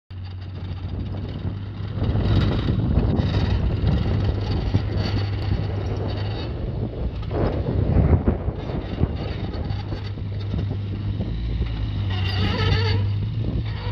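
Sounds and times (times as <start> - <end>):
diesel engine running: 0.1 - 13.9.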